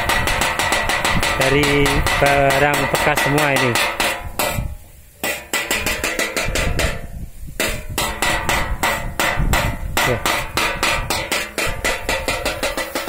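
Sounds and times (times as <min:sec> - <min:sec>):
wind buffeting microphone: 0:00.0 - 0:05.1, 0:05.7 - 0:13.0
propeller striker clanking on metal tin: 0:00.0 - 0:13.0.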